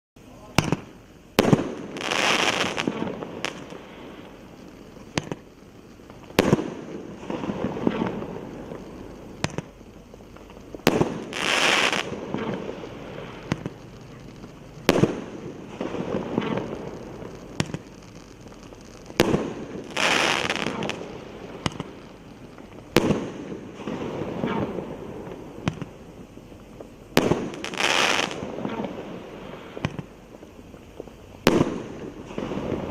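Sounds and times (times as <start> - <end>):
firework hissing and crackling: 0.2 - 32.9
firework shots popping: 0.3 - 32.9.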